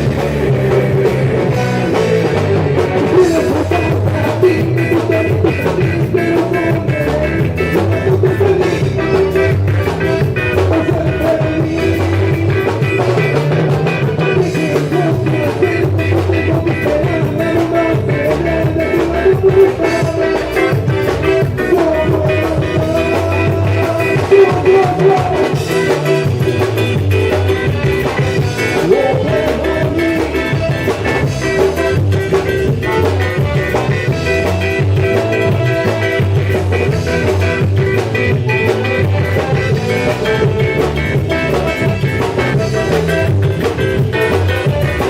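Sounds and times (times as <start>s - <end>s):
band music song: 0.0s - 45.0s.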